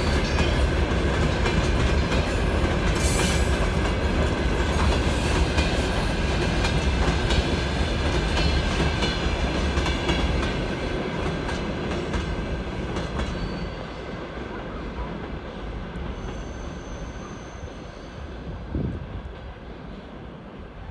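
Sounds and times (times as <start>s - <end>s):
freight train rolling past: 0.0s - 20.9s.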